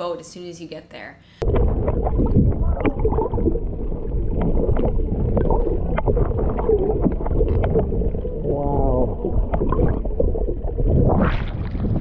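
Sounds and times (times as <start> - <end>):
underwater rushing and bubbling: 1.4 - 12.0.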